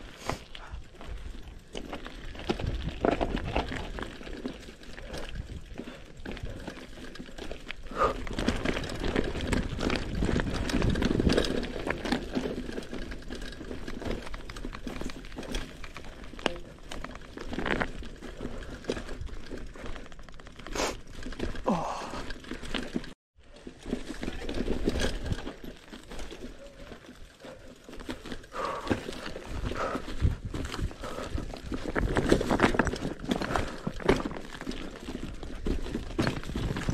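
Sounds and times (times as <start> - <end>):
bike rattling over bumps: 0.0 - 36.9
bike tyres rolling over stones: 0.0 - 36.9.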